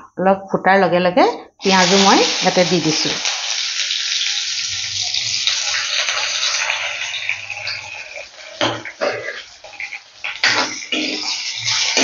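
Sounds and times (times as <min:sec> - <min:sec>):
onions sizzling in hot oil: 0:01.6 - 0:12.0.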